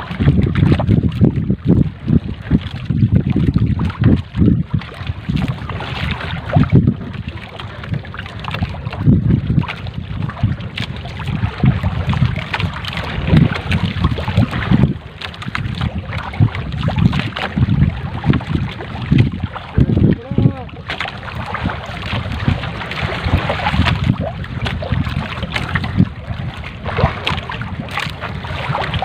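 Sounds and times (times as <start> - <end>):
water lapping at boat hull: 0.0 - 29.0
wind buffeting microphone: 0.0 - 29.0.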